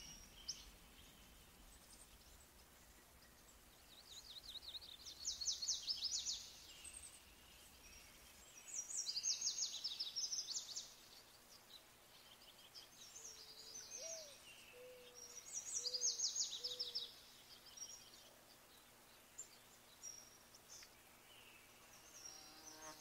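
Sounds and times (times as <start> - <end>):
small birds chirping and trilling: 0.0 - 23.0.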